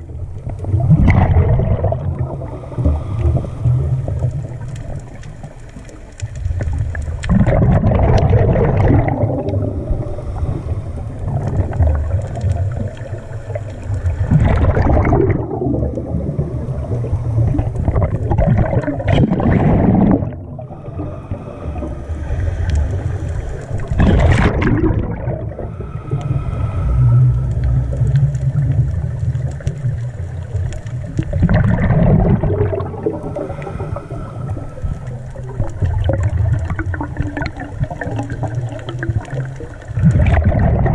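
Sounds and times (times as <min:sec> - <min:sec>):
underwater bubbling and rushing water: 0:00.0 - 0:40.9.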